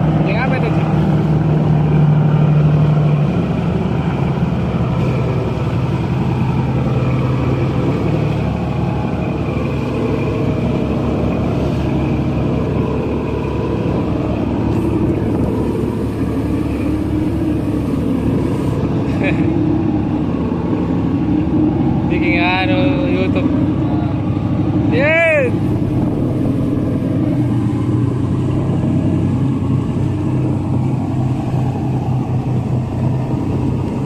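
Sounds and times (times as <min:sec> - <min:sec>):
boat diesel engines droning: 0:00.0 - 0:34.0
propeller wash churning: 0:00.0 - 0:34.0.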